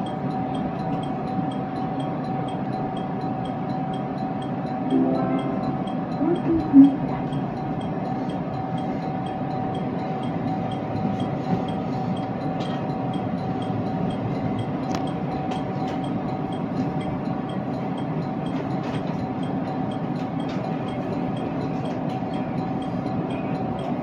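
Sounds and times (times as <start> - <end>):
constant hum: 0.0 - 24.0
train interior rumble: 0.0 - 24.0.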